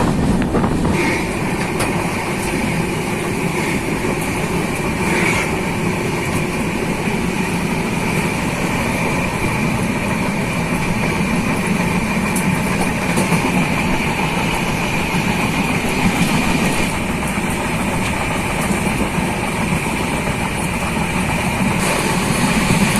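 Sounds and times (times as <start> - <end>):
passenger train rumbling: 0.0 - 22.9.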